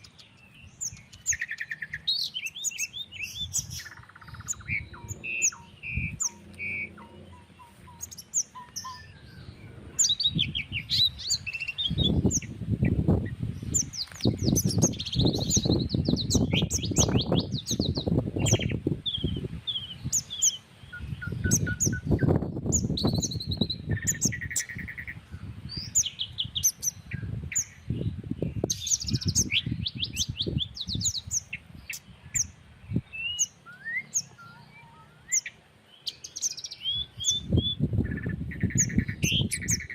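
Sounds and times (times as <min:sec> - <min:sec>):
wind buffeting microphone: 0:00.0 - 0:33.4, 0:36.6 - 0:39.9
small birds chirping and trilling: 0:00.0 - 0:39.9.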